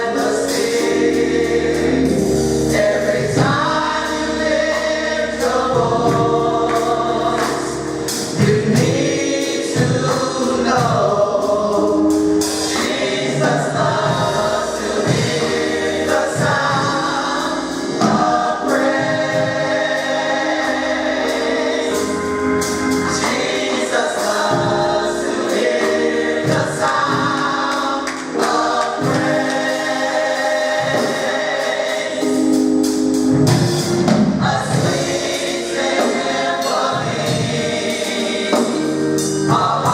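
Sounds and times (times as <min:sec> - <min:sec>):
choir singing gospel: 0:00.0 - 0:39.9
instrumental accompaniment: 0:00.0 - 0:39.9.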